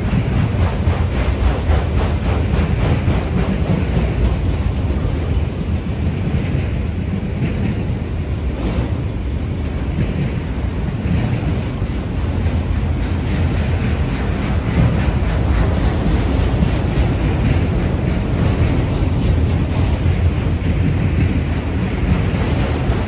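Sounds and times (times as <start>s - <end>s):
train wheels rumbling on rails: 0.0s - 23.0s
wheels clicking over rail joints: 0.0s - 23.0s.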